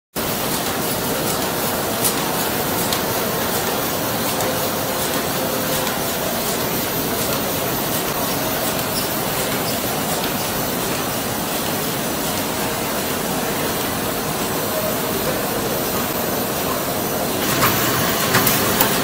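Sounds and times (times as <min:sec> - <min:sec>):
laminator machine whirring: 0:00.2 - 0:19.0.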